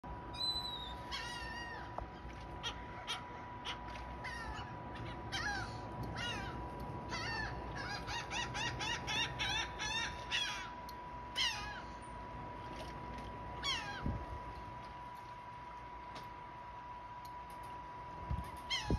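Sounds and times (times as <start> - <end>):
gulls calling: 0.3 - 15.2, 18.3 - 18.9.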